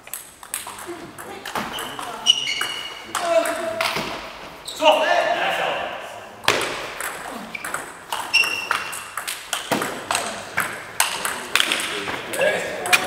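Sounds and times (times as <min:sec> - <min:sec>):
table tennis balls clicking: 0:00.0 - 0:04.1, 0:06.4 - 0:13.0.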